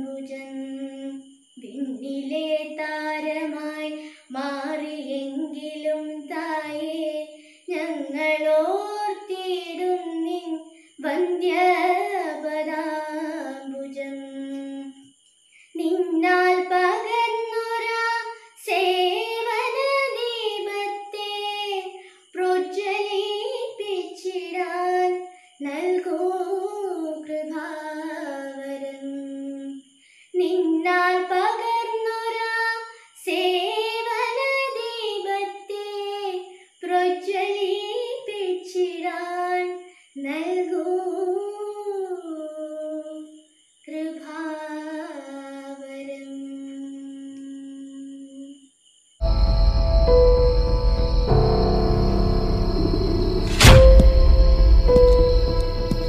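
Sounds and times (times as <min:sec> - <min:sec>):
high voice singing unaccompanied: 0:00.0 - 0:15.0, 0:15.8 - 0:29.8, 0:30.4 - 0:43.3, 0:43.9 - 0:48.5.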